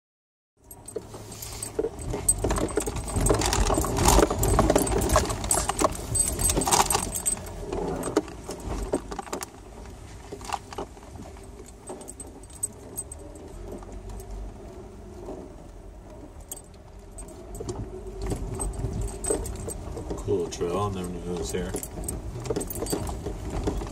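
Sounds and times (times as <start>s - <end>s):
engine and tyres rumbling: 0.6s - 23.9s
loose items rattling in cab: 0.6s - 23.9s.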